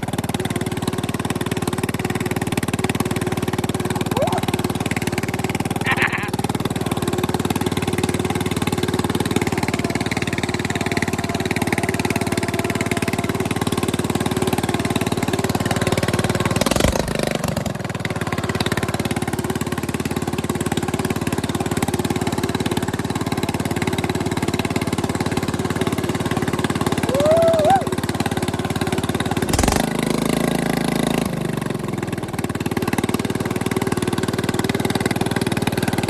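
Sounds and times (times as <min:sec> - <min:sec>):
mower engine running loudly: 0:00.0 - 0:36.0.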